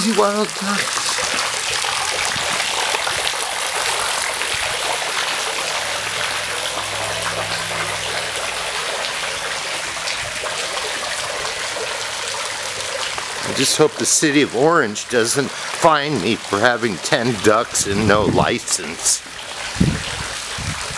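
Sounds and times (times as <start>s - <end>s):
water splashing into pool: 0.0s - 20.9s.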